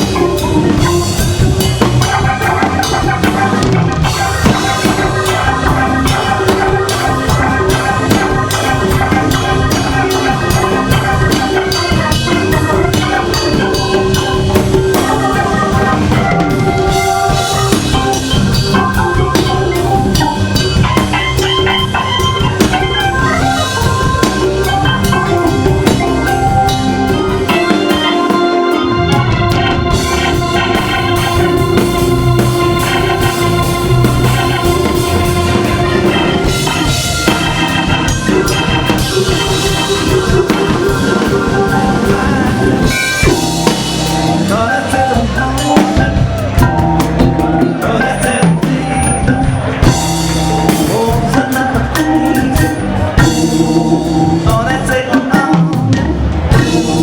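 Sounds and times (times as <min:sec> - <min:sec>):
drum kit: 0:00.0 - 0:57.0
organ playing soul-jazz: 0:00.0 - 0:57.0.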